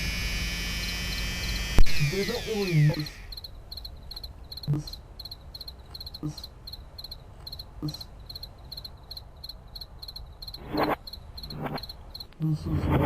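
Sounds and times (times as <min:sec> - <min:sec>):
cricket chirping: 0:00.1 - 0:13.0.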